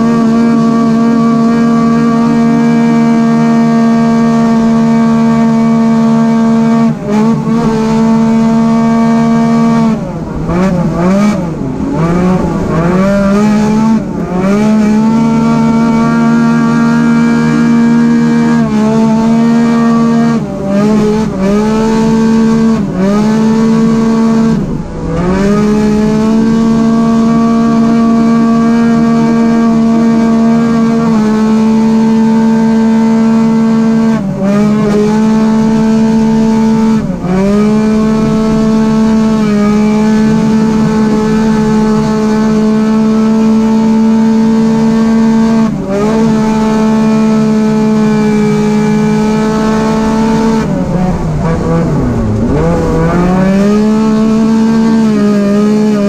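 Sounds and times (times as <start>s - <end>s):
engine at high revs: 0.0s - 56.0s.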